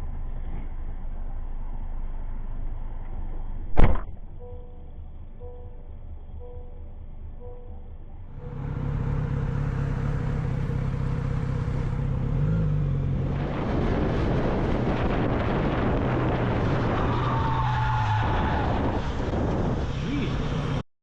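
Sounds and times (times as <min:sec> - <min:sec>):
road and wind noise: 0:00.0 - 0:20.8
vehicle engine hum: 0:00.0 - 0:20.9.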